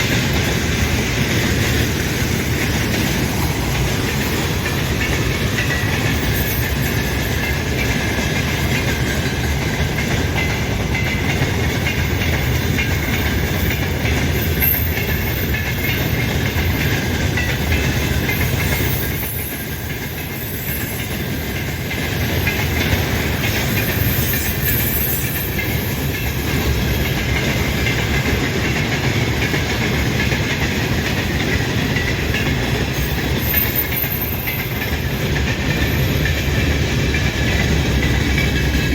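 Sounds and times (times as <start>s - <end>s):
freight train rumbling past: 0.0s - 38.9s
wheels clattering over rails: 0.0s - 38.9s.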